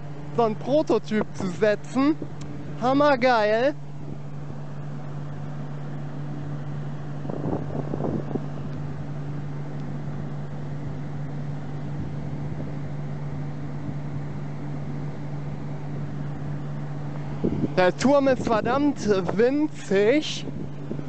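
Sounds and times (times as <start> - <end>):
wind turbine humming: 0.0 - 21.0.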